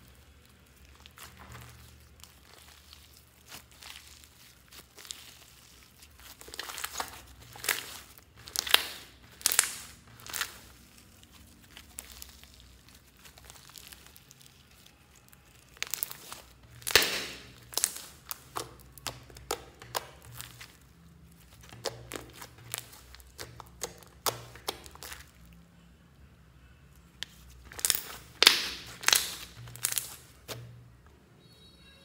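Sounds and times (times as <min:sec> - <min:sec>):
slime squishing and popping: 0:00.0 - 0:25.6, 0:27.2 - 0:30.9.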